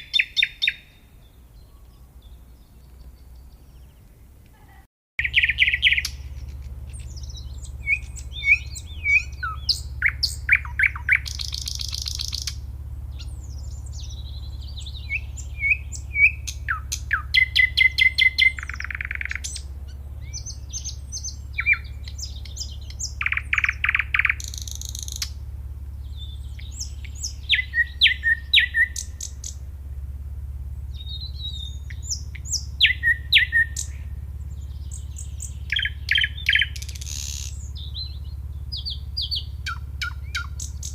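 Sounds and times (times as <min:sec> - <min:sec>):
nightingale singing: 0:00.0 - 0:04.2, 0:05.2 - 0:29.7, 0:30.6 - 0:40.9
steady low hum: 0:01.0 - 0:40.9.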